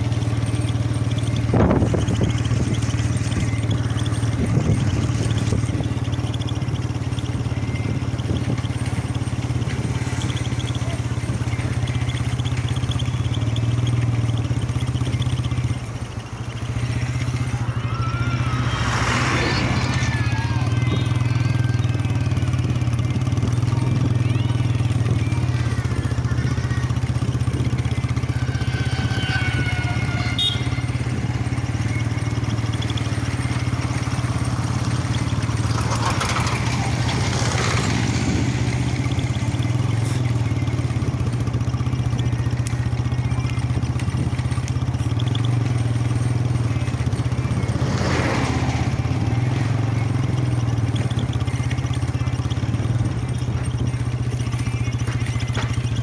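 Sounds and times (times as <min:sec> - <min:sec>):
road noise: 0:00.0 - 0:56.0
vehicle engine humming: 0:00.0 - 0:56.0.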